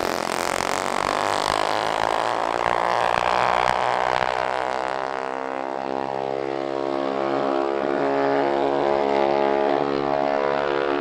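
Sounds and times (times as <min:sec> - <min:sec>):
mini bike engines at high revs: 0:00.0 - 0:11.0.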